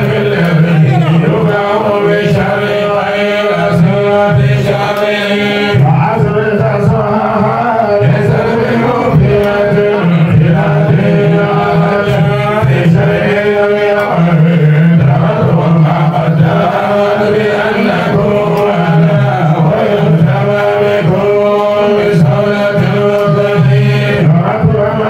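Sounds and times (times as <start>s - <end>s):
man chanting into microphone: 0.0s - 25.0s.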